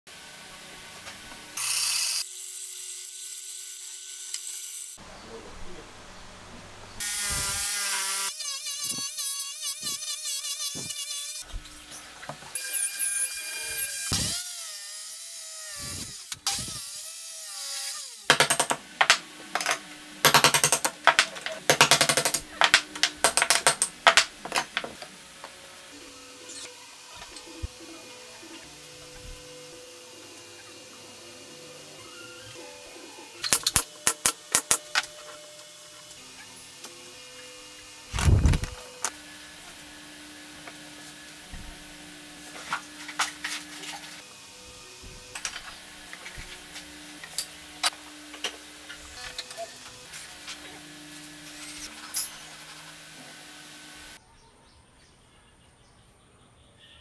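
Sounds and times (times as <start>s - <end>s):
power tools cutting wood: 0.1s - 5.0s, 7.0s - 54.2s.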